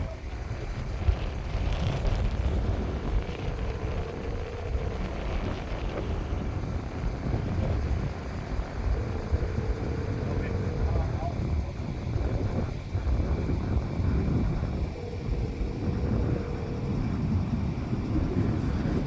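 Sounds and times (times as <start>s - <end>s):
faint steady tone: 0.0s - 19.0s
helicopter rotors droning: 0.0s - 19.0s
wind buffeting microphone: 0.0s - 19.0s.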